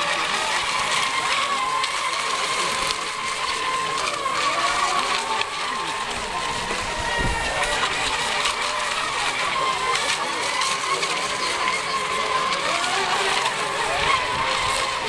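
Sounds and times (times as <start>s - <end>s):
electric boat motors whining: 0.0s - 15.0s.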